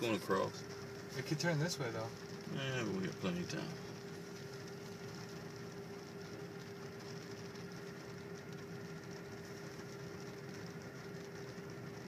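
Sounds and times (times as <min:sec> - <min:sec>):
vehicle cabin running hum: 0:00.0 - 0:12.0.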